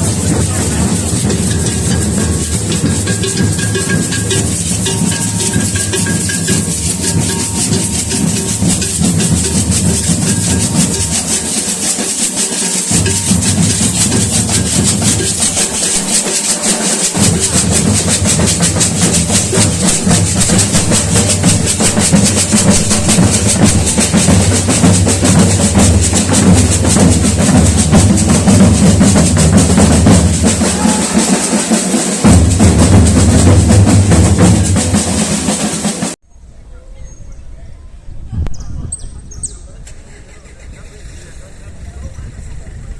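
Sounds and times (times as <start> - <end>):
drum-heavy music: 0.0 - 36.2.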